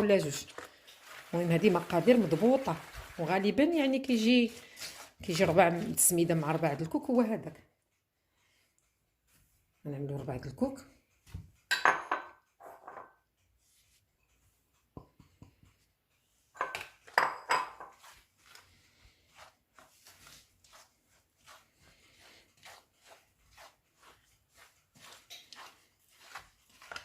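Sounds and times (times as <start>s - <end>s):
soft mixing strokes: 0.0s - 11.4s, 13.3s - 27.0s.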